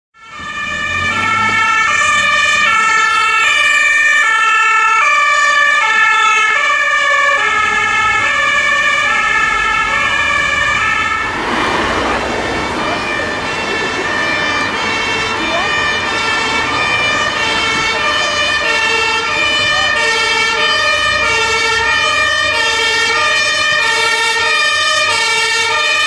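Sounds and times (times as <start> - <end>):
two-tone emergency siren: 0.2 - 26.0.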